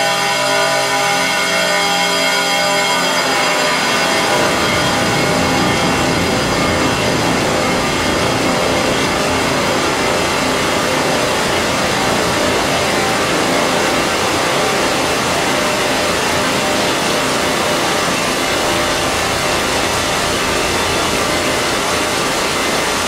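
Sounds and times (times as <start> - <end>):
modular synthesizer drone: 0.0 - 23.0.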